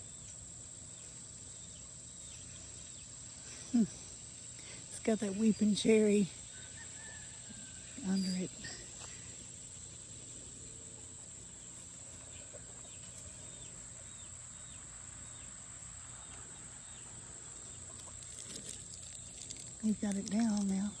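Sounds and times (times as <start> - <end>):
crickets chorus: 0.0 - 21.0.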